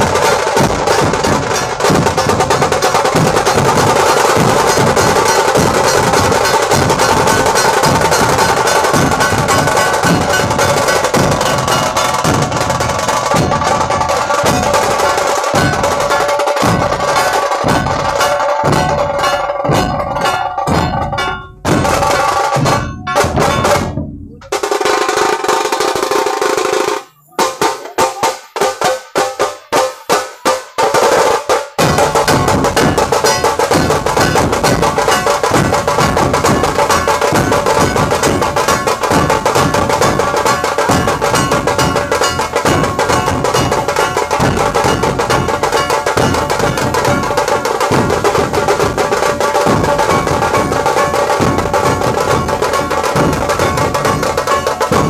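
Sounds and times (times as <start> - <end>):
drum ensemble playing: 0.0 - 55.0.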